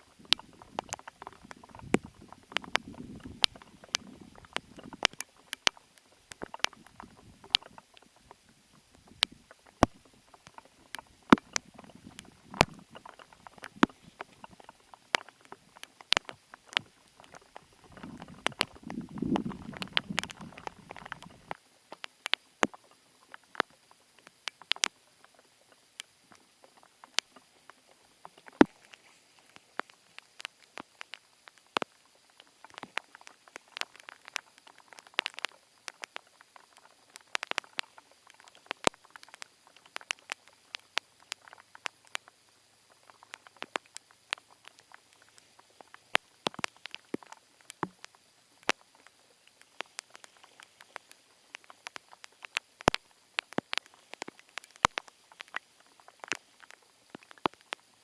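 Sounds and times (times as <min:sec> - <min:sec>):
sharp taps and clicks: 0:00.0 - 0:58.0.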